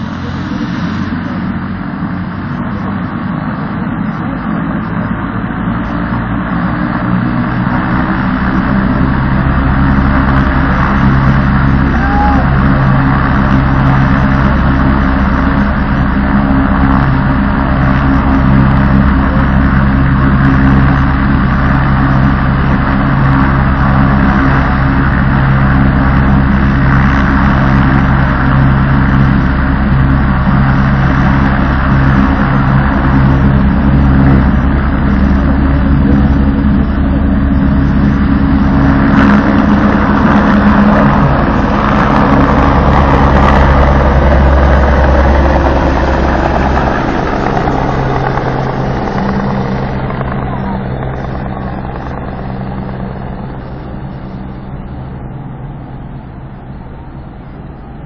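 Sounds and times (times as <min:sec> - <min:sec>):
helicopter engine and rotor: 0:00.0 - 0:58.0
rushing rotor wash: 0:00.0 - 0:58.0.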